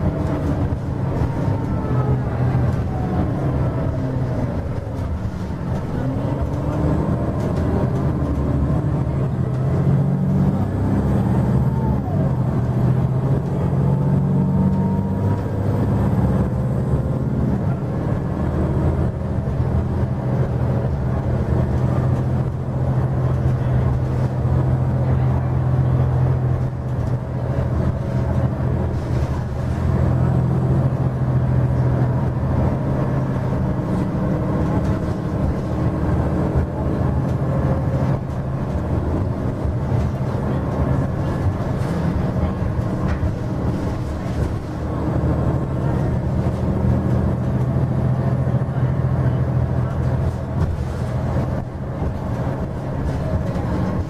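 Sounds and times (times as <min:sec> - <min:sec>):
bus diesel engine drone: 0:00.0 - 0:54.0.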